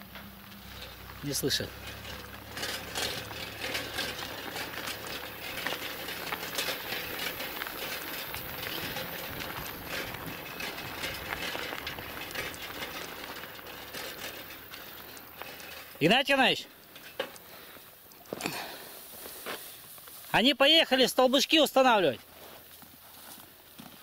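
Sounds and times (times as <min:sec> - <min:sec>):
footsteps crunching on gravel: 0:00.2 - 0:24.0.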